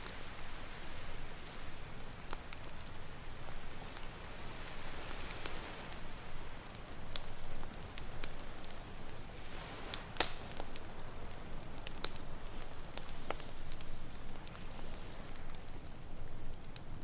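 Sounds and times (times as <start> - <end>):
campfire crackling: 0.0 - 17.0
sharp pops of fire: 1.2 - 17.0.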